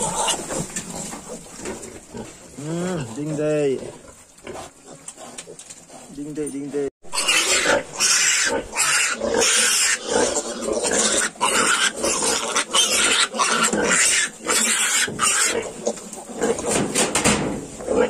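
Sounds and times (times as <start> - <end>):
piglets squealing and grunting: 0.0 - 6.2, 7.1 - 17.0.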